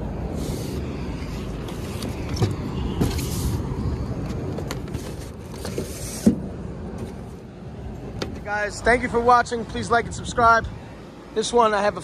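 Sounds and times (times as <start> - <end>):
low rumble of rooftop unit: 0.0 - 12.0.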